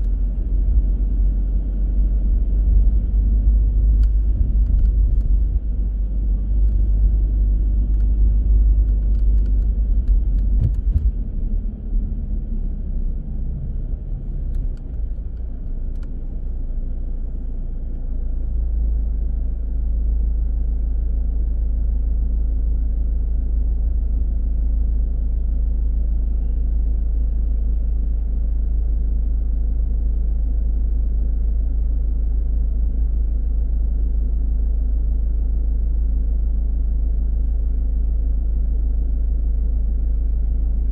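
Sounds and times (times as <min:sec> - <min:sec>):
car engine and tyre noise: 0:00.0 - 0:40.9.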